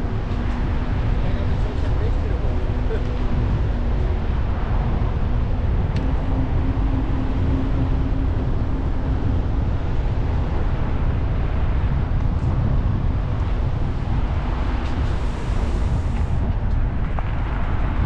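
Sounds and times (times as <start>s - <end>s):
tyres rumbling on road: 0.0s - 18.0s
wind buffeting microphone: 0.0s - 18.0s.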